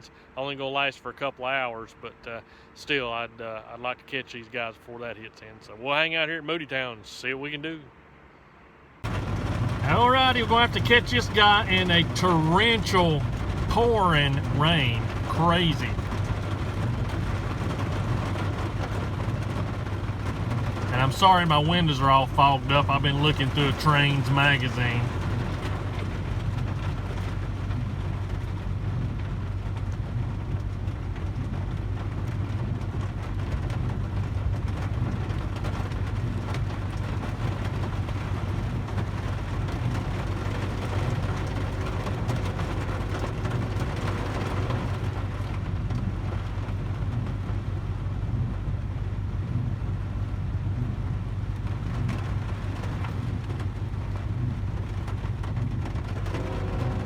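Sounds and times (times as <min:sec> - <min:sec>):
vehicle engine hum: 0:07.9 - 0:57.0
rain on vehicle roof and glass: 0:09.0 - 0:57.0.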